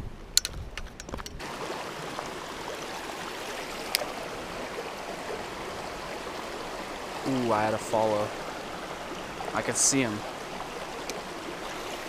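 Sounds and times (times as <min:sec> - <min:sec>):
creek water flowing: 0:01.4 - 0:12.0.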